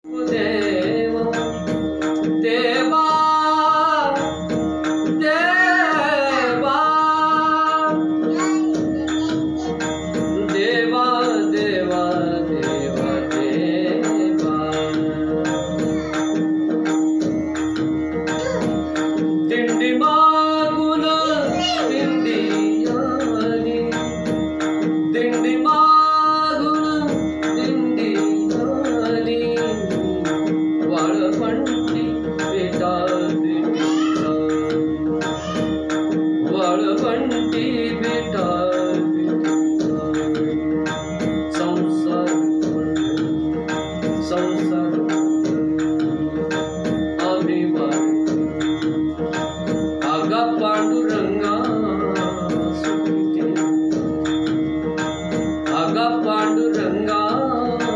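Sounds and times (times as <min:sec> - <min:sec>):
man singing wordless vocal line: 0:00.0 - 0:08.6, 0:09.6 - 0:16.2, 0:19.4 - 0:35.7, 0:36.4 - 0:40.8, 0:41.4 - 0:43.0, 0:44.1 - 0:46.4, 0:47.1 - 0:48.6, 0:50.0 - 0:54.0, 0:55.6 - 0:57.9
percussion thumps and metallic taps: 0:00.1 - 0:57.9.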